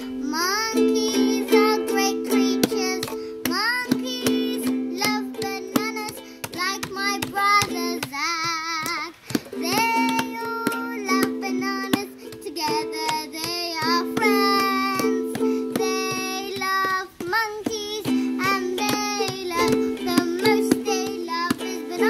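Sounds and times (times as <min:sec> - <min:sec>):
child singing: 0:00.0 - 0:22.0
strummed ukulele: 0:00.0 - 0:22.0.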